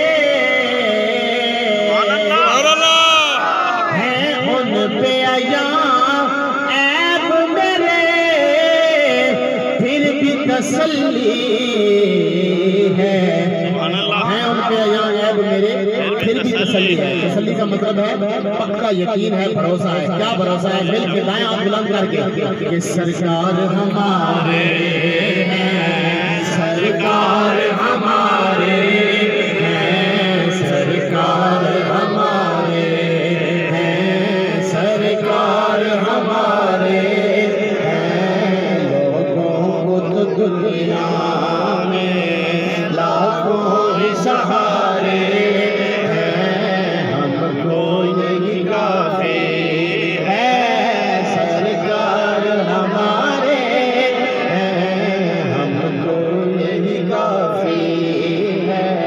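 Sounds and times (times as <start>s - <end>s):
man singing into a microphone: 0.0s - 59.0s.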